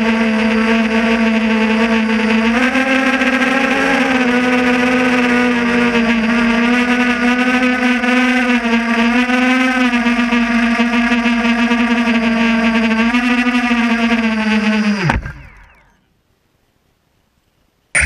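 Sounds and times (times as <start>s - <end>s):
drone motors humming: 0.0s - 16.2s.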